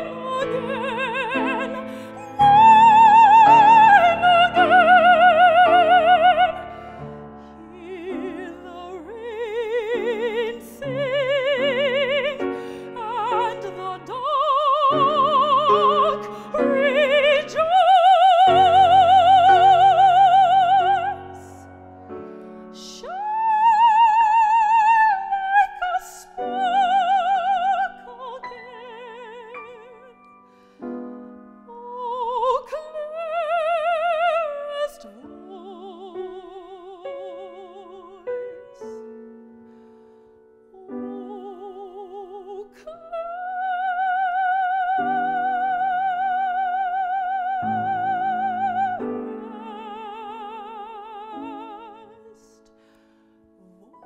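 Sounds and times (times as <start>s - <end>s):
woman singing opera: 0.0s - 30.7s, 31.6s - 39.1s, 40.7s - 54.0s
piano accompaniment: 0.0s - 54.0s.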